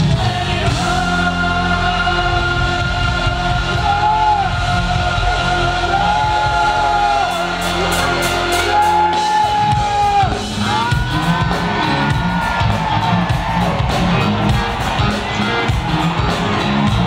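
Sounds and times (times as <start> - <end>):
bass guitar: 0.0 - 17.0
drum kit with cymbals: 0.0 - 17.0.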